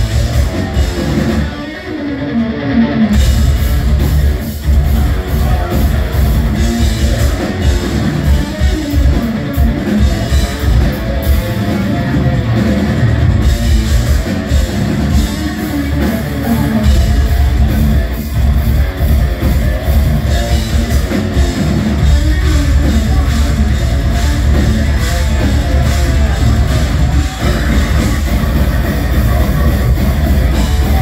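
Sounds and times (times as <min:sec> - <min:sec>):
death metal band playing live: 0:00.0 - 0:31.0.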